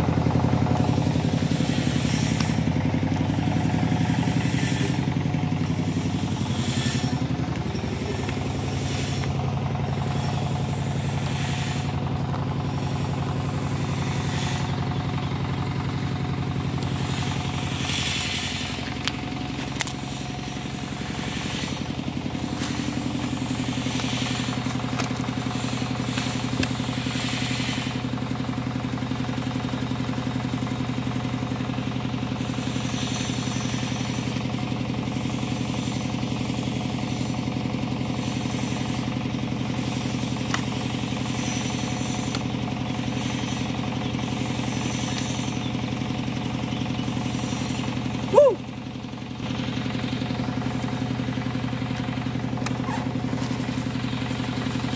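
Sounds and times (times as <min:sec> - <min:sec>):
chainsaw idling: 0:00.0 - 0:54.9.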